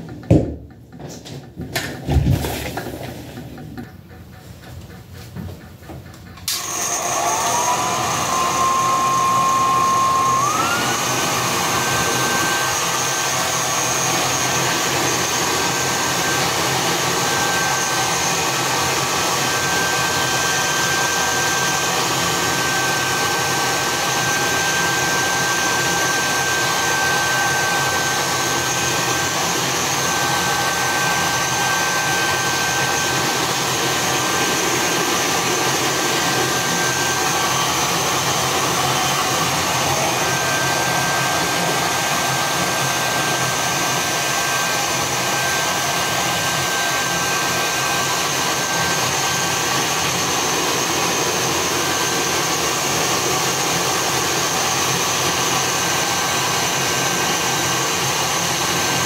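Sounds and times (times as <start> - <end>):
hair dryer blowing: 6.4 - 59.0.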